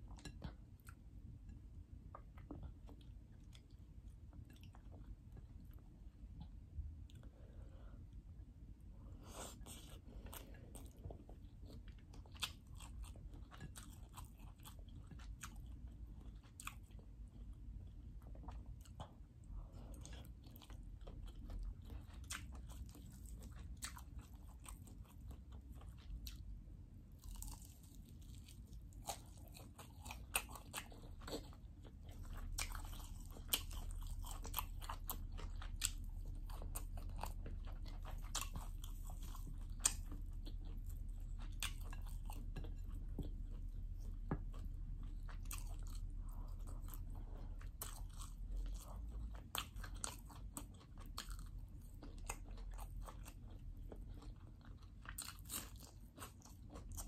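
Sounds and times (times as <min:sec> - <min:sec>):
low steady hum: 0:00.0 - 0:57.0
person chewing and biting food: 0:09.2 - 0:26.5, 0:27.1 - 0:57.0.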